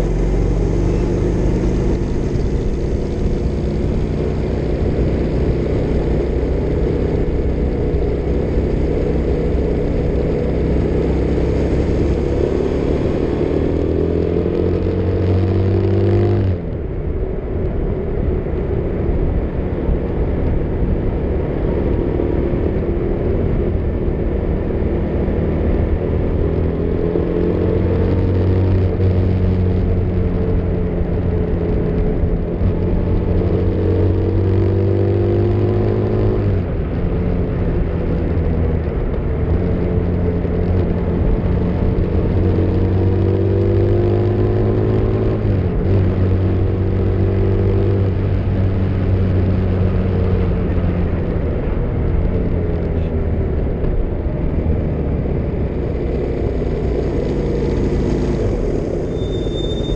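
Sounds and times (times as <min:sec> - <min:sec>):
motorcycle engine revving: 0:00.0 - 0:16.8, 0:21.9 - 0:59.9
wind and road noise: 0:00.0 - 0:59.9.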